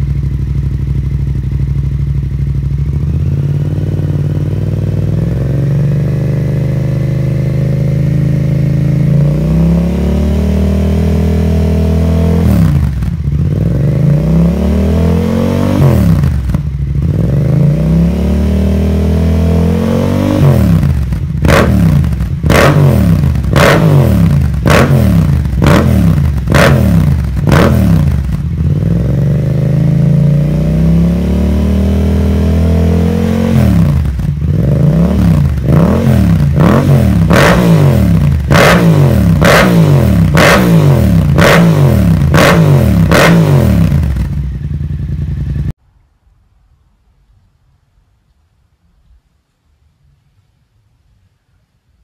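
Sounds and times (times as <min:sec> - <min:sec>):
motorcycle engine revving: 0:00.0 - 0:45.8.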